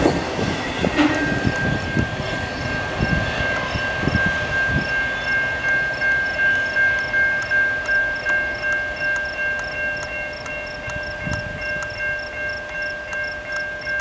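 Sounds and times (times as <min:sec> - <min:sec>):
crossing warning bell ringing: 0:00.0 - 0:14.0
freight train faintly rumbling: 0:00.0 - 0:14.0.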